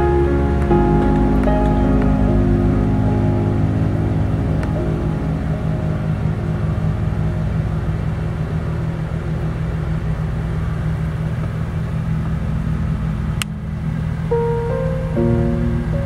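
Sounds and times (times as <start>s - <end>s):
low pulsing drone music: 0.0s - 16.0s.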